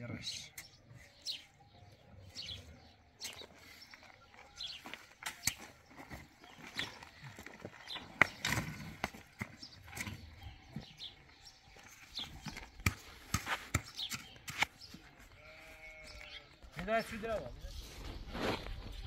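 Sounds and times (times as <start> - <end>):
footsteps on gravel: 2.4 - 19.0.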